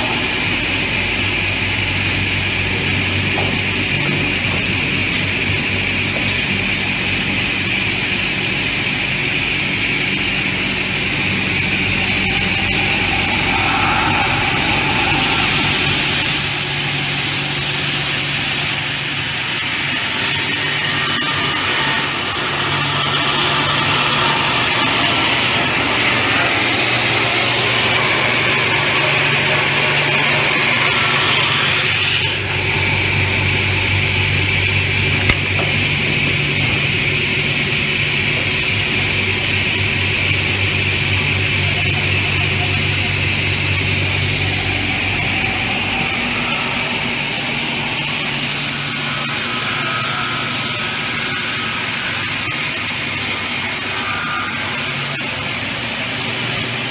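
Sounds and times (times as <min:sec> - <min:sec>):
cutting saw running with high whine: 0:00.0 - 0:56.9.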